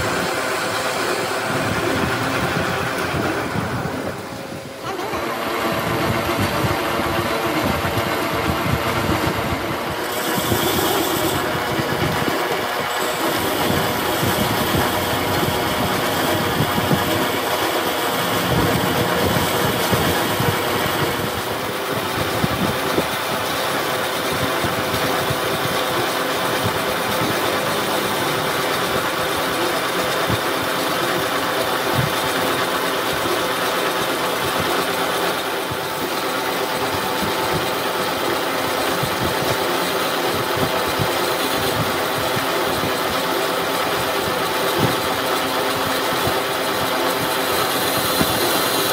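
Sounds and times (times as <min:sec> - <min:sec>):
metal lathe cutting: 0:00.0 - 0:48.9.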